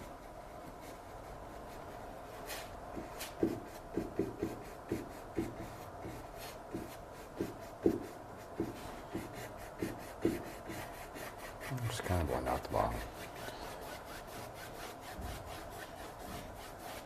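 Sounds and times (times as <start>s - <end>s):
brush rubbing on canvas: 0.0s - 17.0s.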